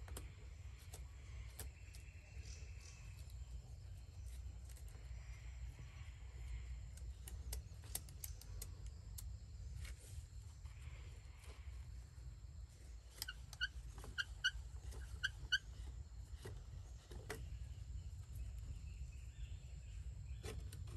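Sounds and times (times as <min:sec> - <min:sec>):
low background rumble: 0:00.0 - 0:20.9.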